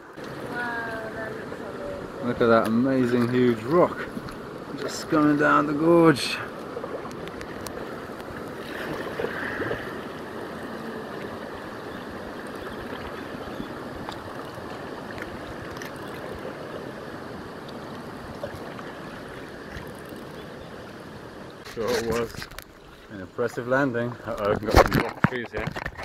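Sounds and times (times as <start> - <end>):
river water rushing: 0.0 - 21.8.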